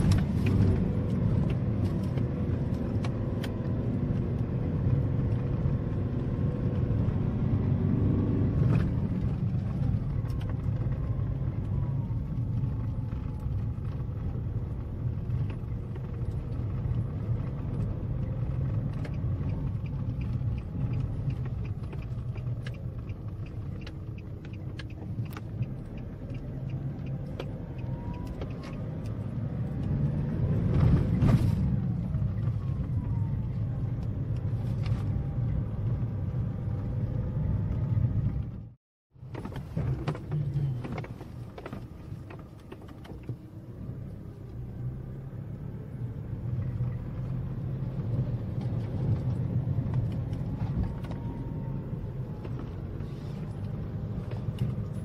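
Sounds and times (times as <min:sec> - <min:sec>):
car rumbling on dirt road: 0:00.0 - 0:55.0.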